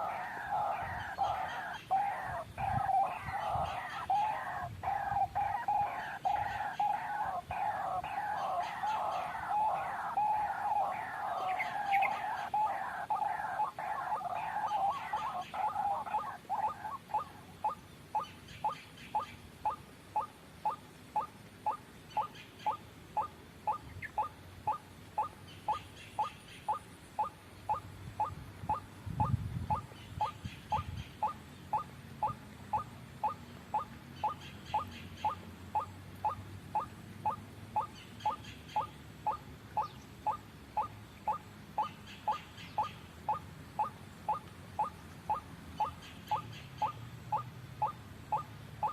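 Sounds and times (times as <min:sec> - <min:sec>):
waterhen repeated call: 0:00.0 - 0:48.9.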